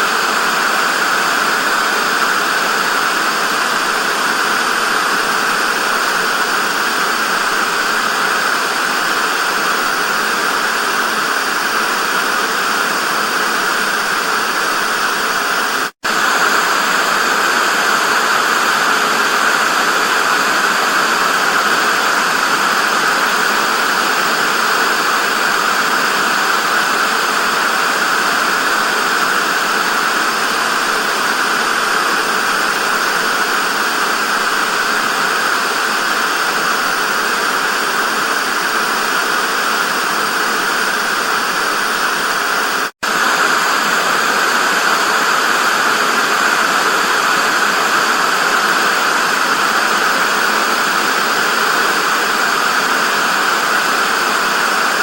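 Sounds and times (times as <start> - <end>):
television static hiss: 0.0 - 55.0.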